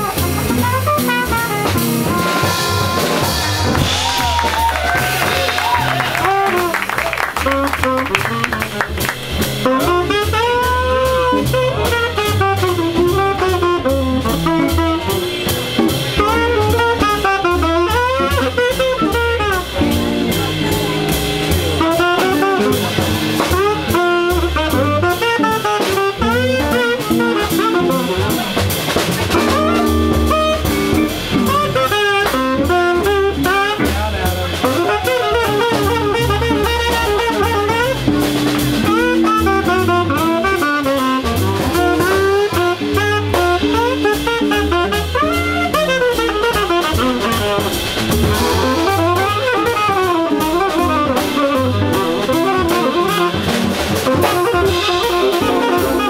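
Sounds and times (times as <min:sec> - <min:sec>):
drum kit with cymbals: 0:00.0 - 0:56.0
saxophone solo: 0:00.0 - 0:56.0
stepping bass line: 0:00.0 - 0:56.0.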